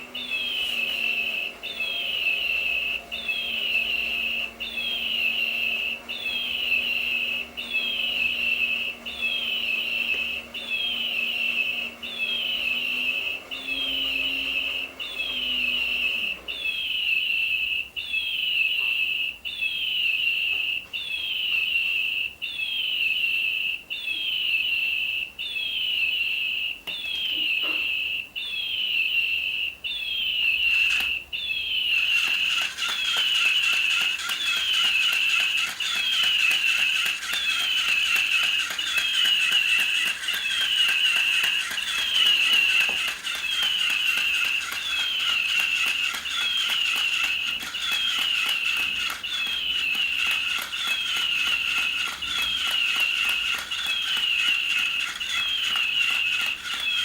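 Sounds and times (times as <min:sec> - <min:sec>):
electronic toy bird chirp: 0:00.0 - 0:57.0.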